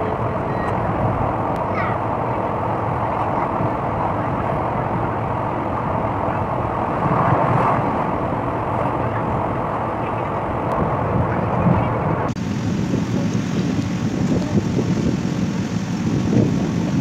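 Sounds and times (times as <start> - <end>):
rushing air: 0.0 - 17.0
train wheels on rails: 0.0 - 17.0.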